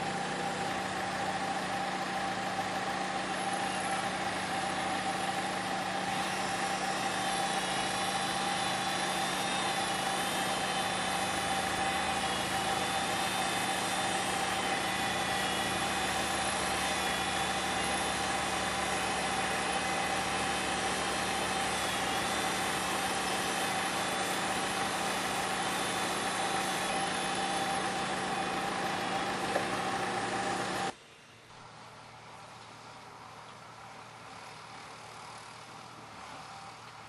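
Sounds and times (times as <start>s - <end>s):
earthmoving machine engine running: 0.0s - 37.0s.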